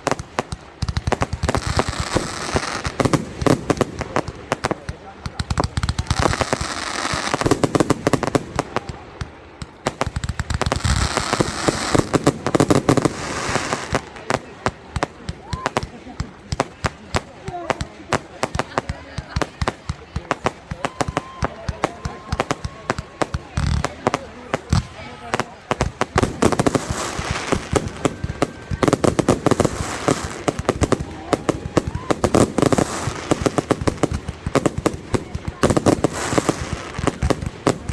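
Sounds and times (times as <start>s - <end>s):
crowd noise: 0.0s - 37.9s
fireworks crackling and popping: 0.0s - 37.9s.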